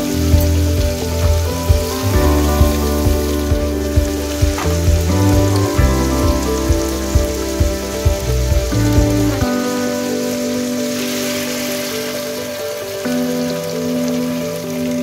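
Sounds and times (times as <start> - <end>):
background music with beat and bass: 0.0 - 13.6
fish frying in oil: 0.0 - 15.0.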